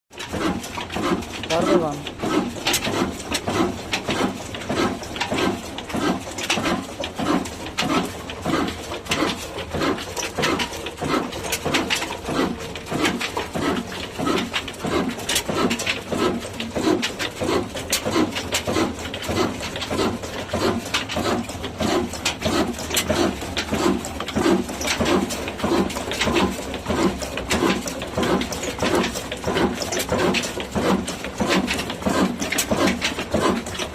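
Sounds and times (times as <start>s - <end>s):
old diesel engine running: 0.1s - 33.9s.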